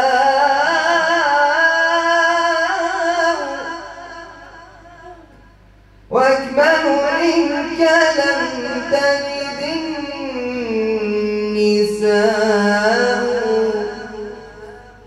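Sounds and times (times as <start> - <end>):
man singing unaccompanied: 0.0 - 5.5, 6.1 - 15.0.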